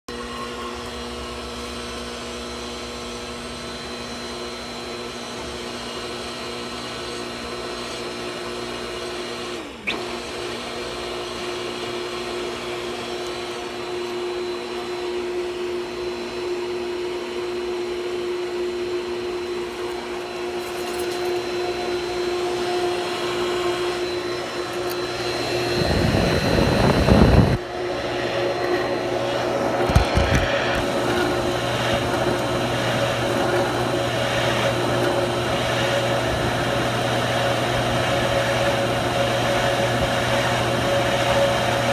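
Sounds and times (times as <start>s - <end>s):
pool pump motor humming: 0.1s - 41.9s
pump grinding noise: 0.1s - 41.9s.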